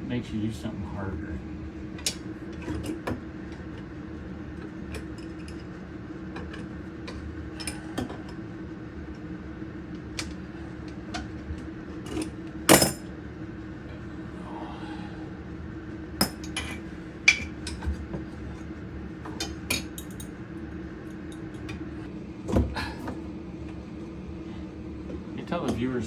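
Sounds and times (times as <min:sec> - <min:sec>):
low hum: 0:03.3 - 0:25.5.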